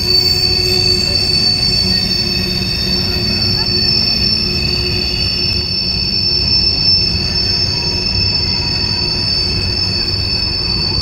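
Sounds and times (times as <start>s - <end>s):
low rumble of train: 0.0s - 11.0s
train wheels squealing: 0.0s - 11.0s.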